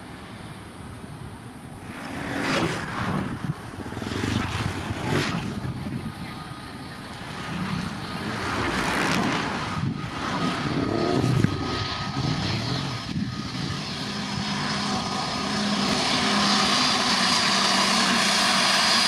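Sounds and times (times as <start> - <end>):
faint whine: 0.0 - 19.0
jet engines at taxi power: 0.0 - 19.0.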